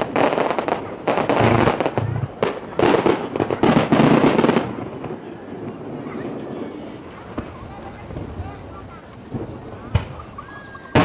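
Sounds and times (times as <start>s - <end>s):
firework crackling: 0.0s - 11.0s
firework shells bursting: 0.0s - 11.0s.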